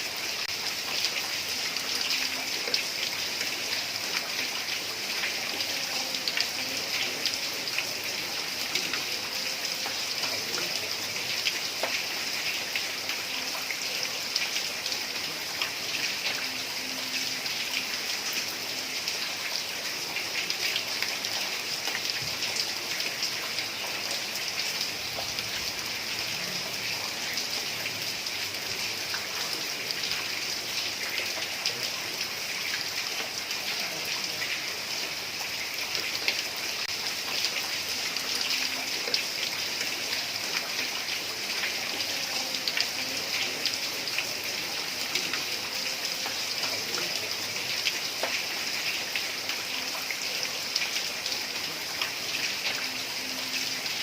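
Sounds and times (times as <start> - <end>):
heavy rain on a tiled roof: 0.0 - 54.0.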